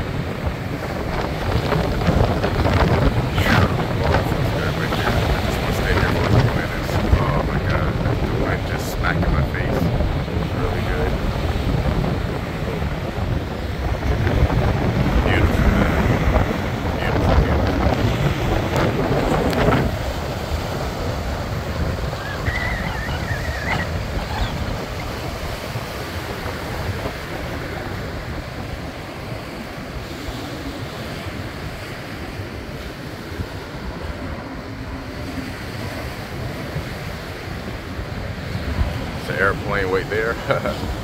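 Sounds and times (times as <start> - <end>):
small waves breaking on beach: 0.0 - 41.0
wind rumbling on microphone: 0.0 - 41.0.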